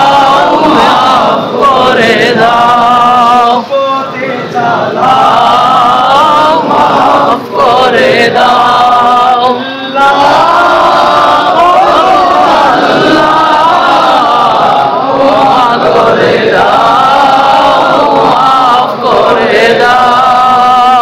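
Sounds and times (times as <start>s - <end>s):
men singing devotional song: 0.0s - 21.0s.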